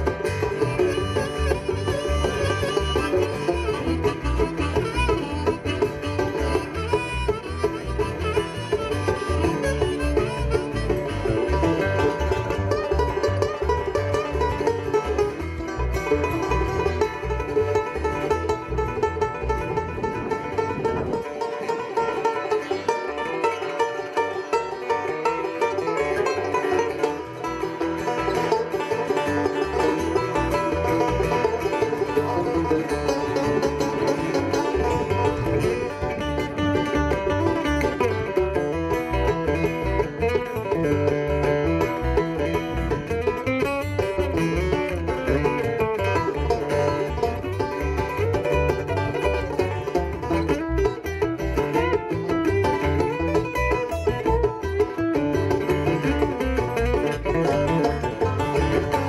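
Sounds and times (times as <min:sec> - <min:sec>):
acoustic guitar: 0:00.0 - 0:59.0
banjo picking: 0:00.0 - 0:59.0
upright bass: 0:00.0 - 0:59.0.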